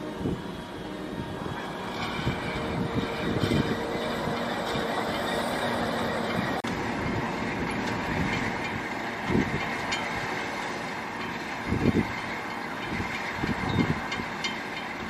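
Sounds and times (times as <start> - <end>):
tractor and harvester clattering: 0.0 - 15.0.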